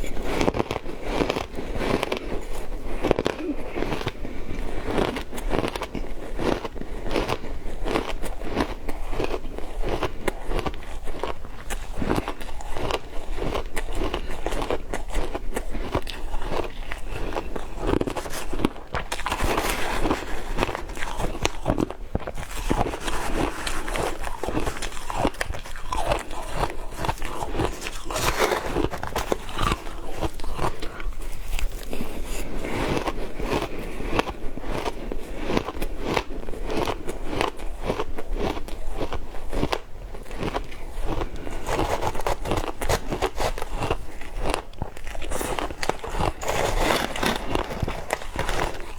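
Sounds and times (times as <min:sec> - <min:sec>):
chewing: 0:00.0 - 0:48.9
ice crunching in mouth: 0:00.0 - 0:48.9.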